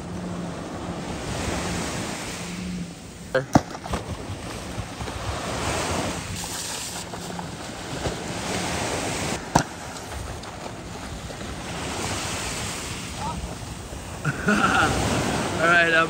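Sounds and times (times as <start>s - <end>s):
waves washing up a beach: 0.0s - 16.0s.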